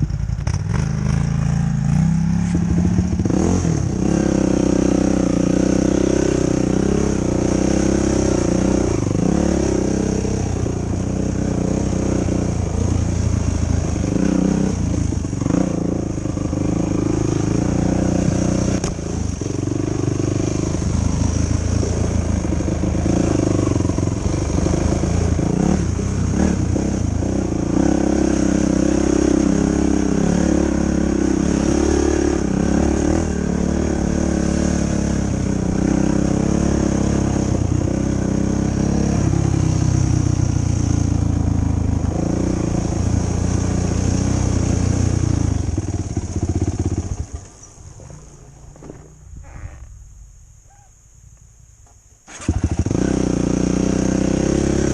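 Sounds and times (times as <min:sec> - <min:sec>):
atv engine revving: 0:00.0 - 0:50.0, 0:52.3 - 0:54.9.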